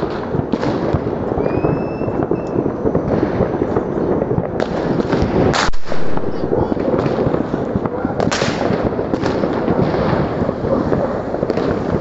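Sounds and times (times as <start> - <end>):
firecrackers crackling and banging: 0.0 - 12.0.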